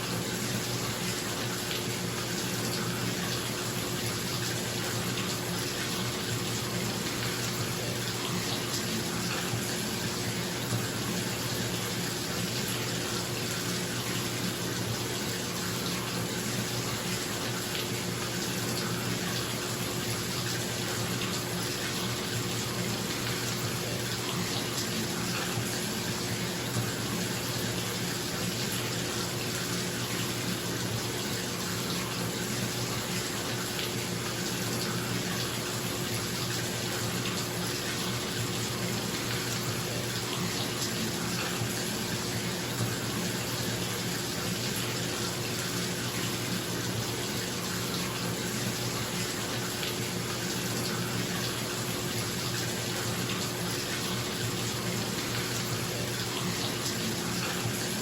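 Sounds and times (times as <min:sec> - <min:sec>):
bathroom exhaust fan humming: 0:00.0 - 0:58.0
tap water running into tub: 0:00.0 - 0:58.0.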